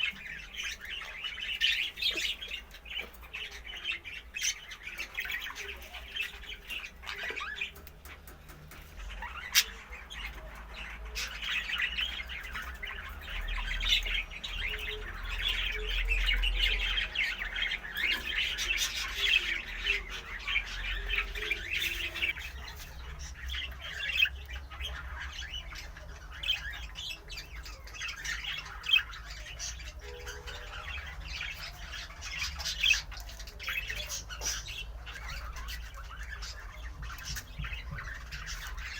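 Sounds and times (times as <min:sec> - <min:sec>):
caged birds chirping and squawking: 0:00.0 - 0:38.9.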